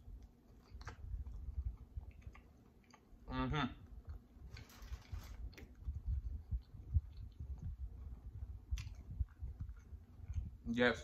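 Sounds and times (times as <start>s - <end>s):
chewing with wet mouth clicks: 0.0s - 4.6s, 5.4s - 10.8s.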